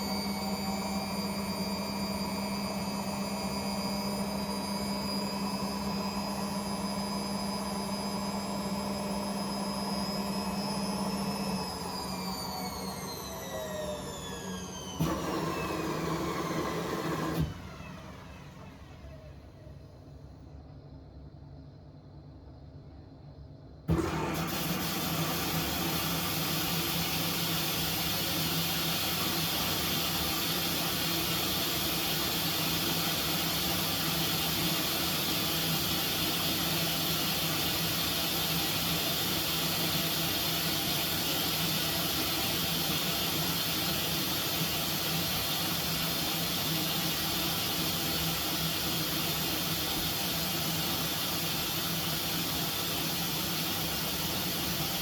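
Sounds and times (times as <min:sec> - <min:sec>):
dishwasher motor hum: 0:00.0 - 0:20.2, 0:23.9 - 0:55.0.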